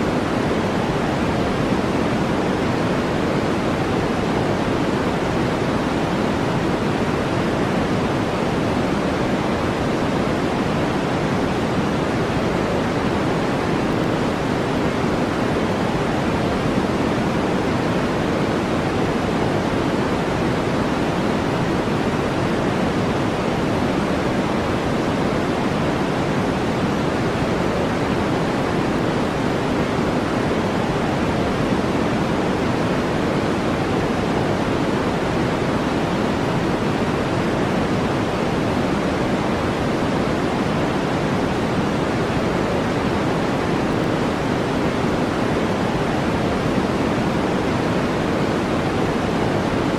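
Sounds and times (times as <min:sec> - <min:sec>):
synthetic brown noise hiss: 0:00.0 - 0:49.9.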